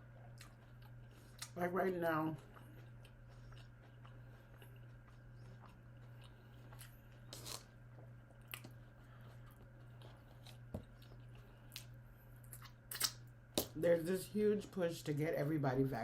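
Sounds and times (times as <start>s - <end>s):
chewing and crunching: 0.0s - 13.8s
steady low hum: 0.0s - 16.0s.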